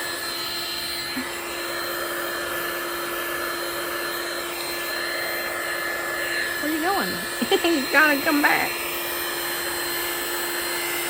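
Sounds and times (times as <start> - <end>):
hot-air blower running: 0.0 - 11.0.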